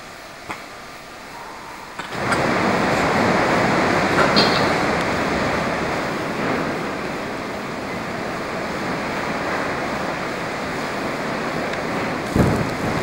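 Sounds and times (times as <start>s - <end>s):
storm wind rushing: 1.2s - 13.0s.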